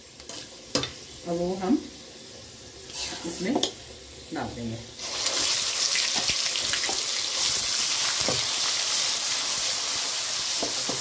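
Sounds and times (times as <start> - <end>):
onion paste sizzling in oil: 0.0 - 11.0.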